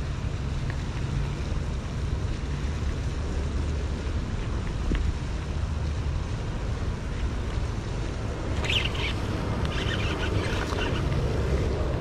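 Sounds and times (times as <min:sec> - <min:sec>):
low wind rumble on microphone: 0:00.0 - 0:12.0.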